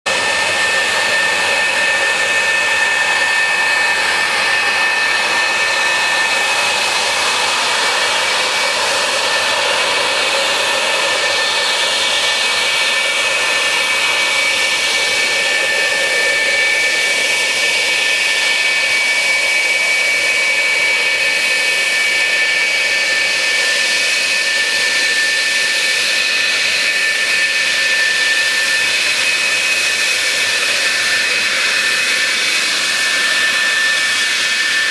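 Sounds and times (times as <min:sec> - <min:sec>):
jet engine whine: 0:00.0 - 0:34.9.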